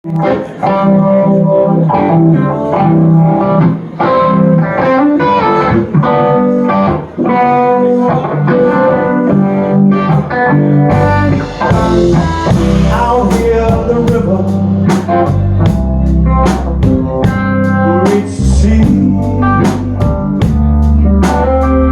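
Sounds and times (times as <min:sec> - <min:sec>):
bass guitar: 0:00.0 - 0:21.9
guitar playing: 0:00.0 - 0:21.9
drums: 0:00.1 - 0:21.9.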